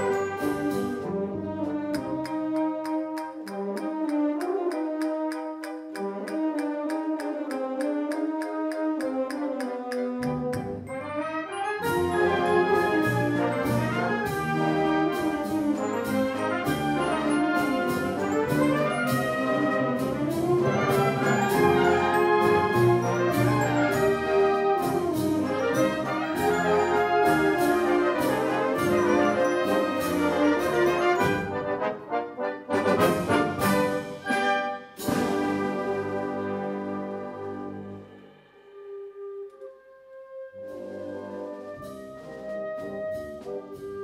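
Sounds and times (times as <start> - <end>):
percussion march beat: 0.0 - 38.5
brass and clarinets melody: 0.0 - 44.0
wind band playing: 0.0 - 44.0.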